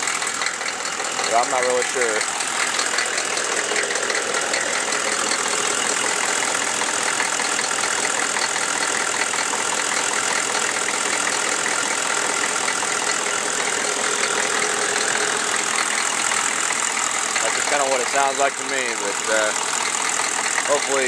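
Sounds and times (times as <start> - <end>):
diesel engine idling with knocking: 0.0 - 21.0.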